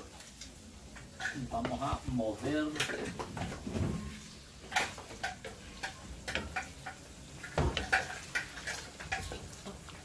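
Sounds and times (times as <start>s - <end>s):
wooden spoon scraping frying pan: 0.0s - 10.0s.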